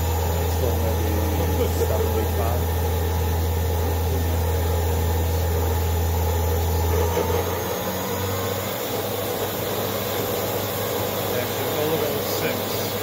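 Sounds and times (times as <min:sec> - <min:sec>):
machine spindle hum: 0:00.0 - 0:13.0.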